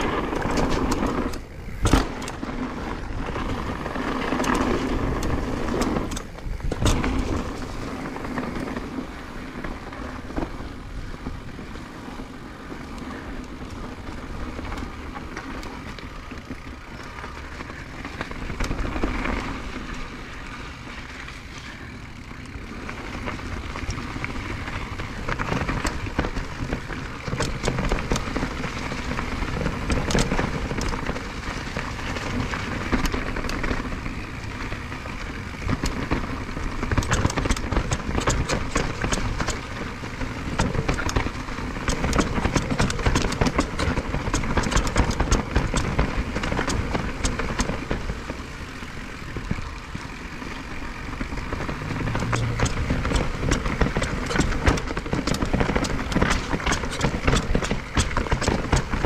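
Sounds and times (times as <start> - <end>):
bike chain and frame clattering: 0.0 - 59.0
bike tyres rolling over dirt: 0.0 - 59.0
steady rushing noise: 0.0 - 59.0.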